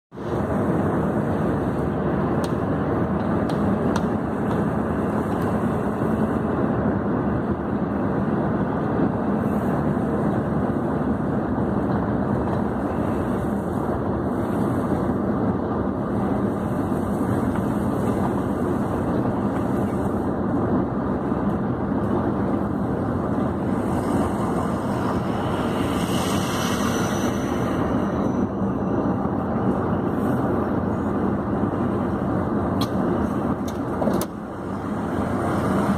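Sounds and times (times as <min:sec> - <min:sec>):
vehicle engine and road noise: 0:00.1 - 0:35.9.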